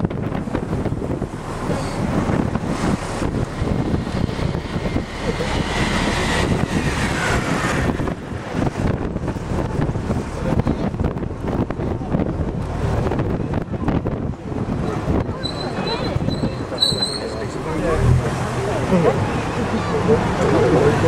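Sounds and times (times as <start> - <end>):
vehicle engine and road noise: 0.0 - 21.0
wind on microphone: 0.0 - 21.0.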